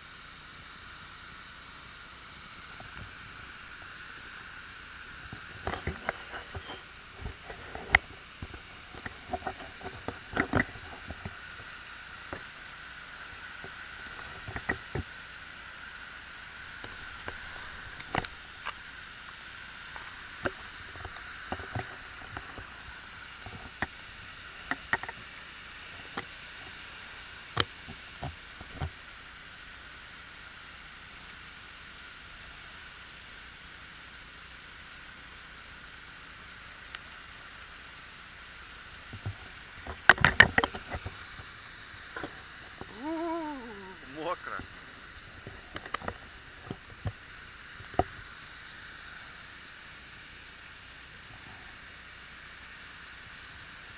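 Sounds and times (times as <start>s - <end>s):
waterfall hissing: 0.0s - 53.9s.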